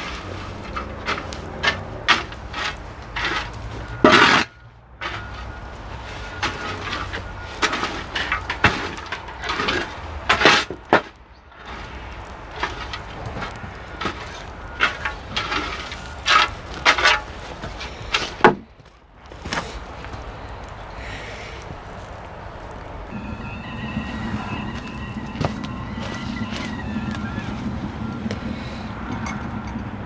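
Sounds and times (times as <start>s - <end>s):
wood and tools knocking and clattering: 0.0s - 20.7s, 23.1s - 30.0s.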